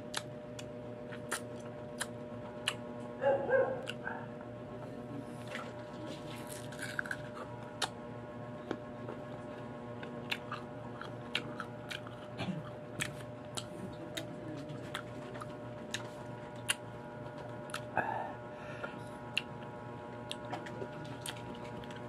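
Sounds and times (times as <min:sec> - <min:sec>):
crunchy mango chewing: 0:00.0 - 0:04.6, 0:05.2 - 0:08.1, 0:09.0 - 0:18.0, 0:19.1 - 0:22.0
faint steady hum: 0:00.0 - 0:22.0.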